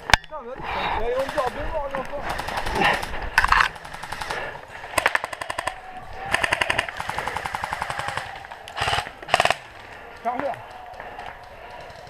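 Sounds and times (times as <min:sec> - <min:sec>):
airsoft guns firing bursts: 0:01.0 - 0:12.0.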